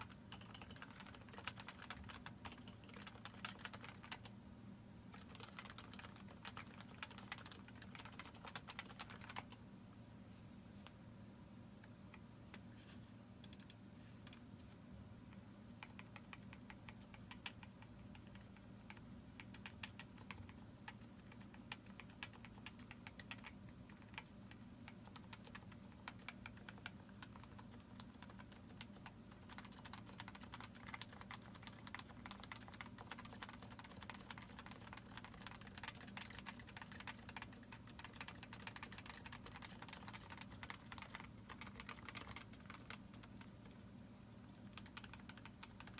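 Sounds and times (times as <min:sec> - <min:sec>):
keyboard typing: 0:00.0 - 0:04.3, 0:05.1 - 0:09.6, 0:15.3 - 0:45.9.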